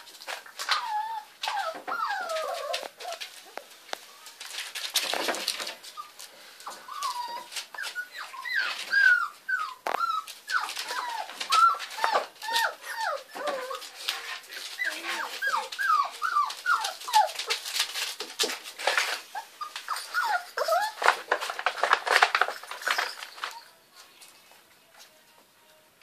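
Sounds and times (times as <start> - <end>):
puppies whining and whimpering: 0.0 - 3.6, 5.4 - 18.0, 18.8 - 23.9.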